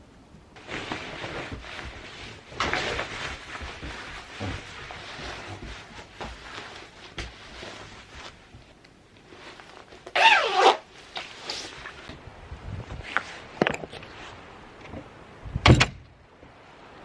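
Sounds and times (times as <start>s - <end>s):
rustling handling noise: 0.6s - 12.2s, 12.8s - 15.2s.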